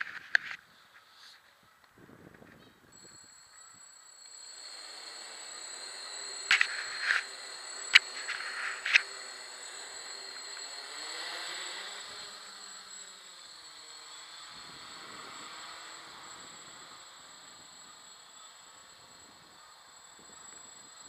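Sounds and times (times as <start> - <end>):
high whine: 2.0 - 21.0
drone motors humming: 2.1 - 21.0.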